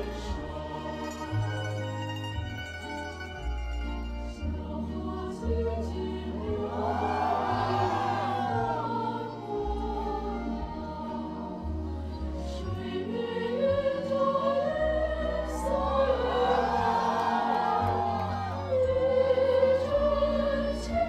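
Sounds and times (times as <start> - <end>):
choir singing chords: 0.0 - 2.4, 4.3 - 21.0.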